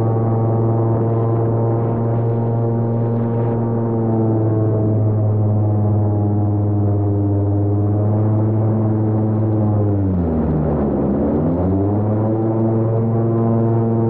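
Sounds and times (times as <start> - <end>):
airboat engine and propeller drone: 0.0 - 14.0.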